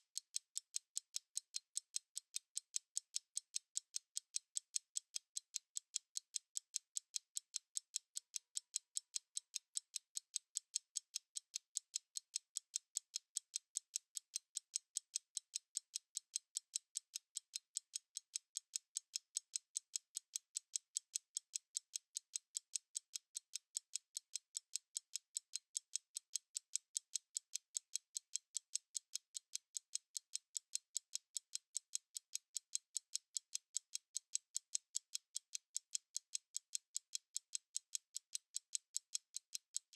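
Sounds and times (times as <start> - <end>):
stopwatch ticking: 0.0 - 39.9.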